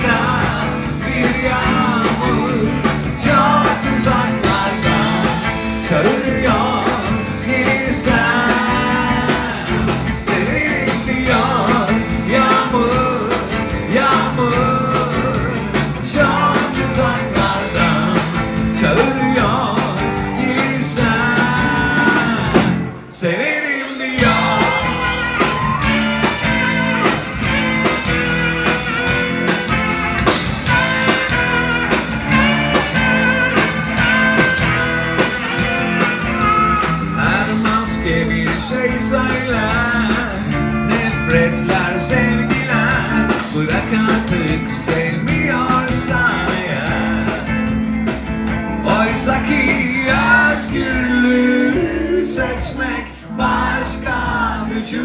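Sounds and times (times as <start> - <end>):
electric guitars: 0.0 - 23.2, 24.0 - 55.0
live rock band playing: 0.0 - 23.2, 23.8 - 55.0
drums: 0.0 - 55.0.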